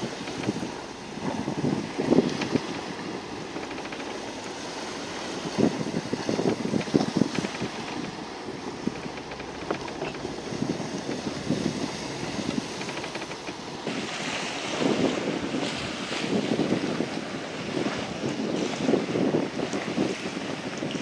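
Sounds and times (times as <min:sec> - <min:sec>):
water washing along a boat: 0:00.0 - 0:21.0
wind buffeting microphone: 0:00.0 - 0:21.0.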